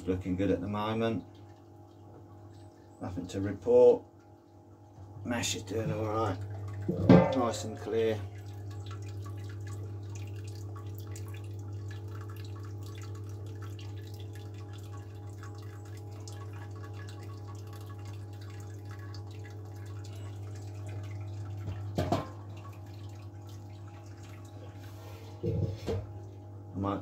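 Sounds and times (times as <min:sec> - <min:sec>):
liquid trickling and dripping: 0:00.0 - 0:27.0
pump humming: 0:00.0 - 0:27.0.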